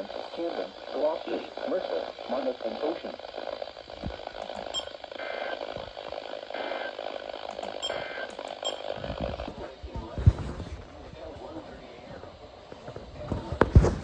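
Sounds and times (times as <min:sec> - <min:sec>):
radio static: 0:00.0 - 0:14.0.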